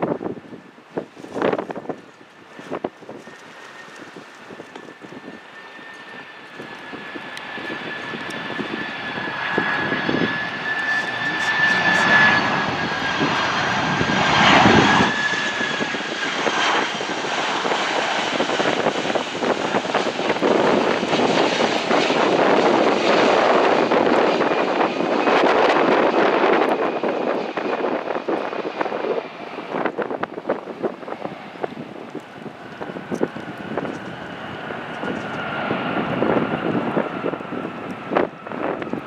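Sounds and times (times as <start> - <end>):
jet airliner passing overhead: 0.0 - 39.0.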